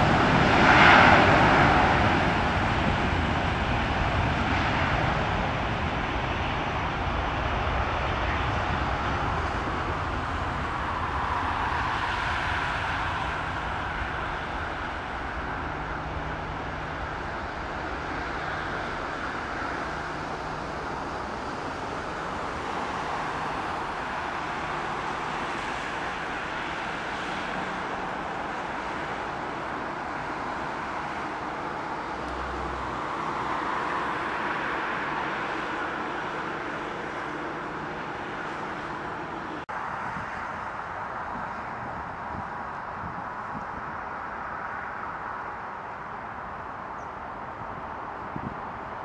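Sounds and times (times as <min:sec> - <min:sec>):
distant jet engines at takeoff: 0:00.0 - 0:49.0.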